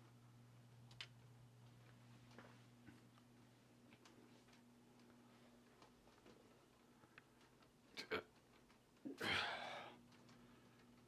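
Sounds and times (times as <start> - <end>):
faint irregular ticks: 0.8 - 9.1, 9.9 - 11.0.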